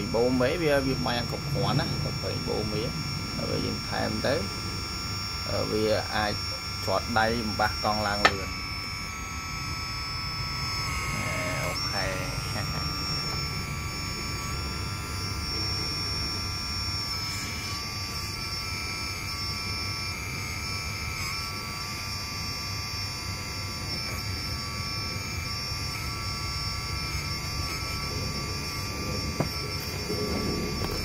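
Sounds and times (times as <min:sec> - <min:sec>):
hydraulic pump whining: 0:00.0 - 0:31.0
low hum: 0:00.0 - 0:31.0.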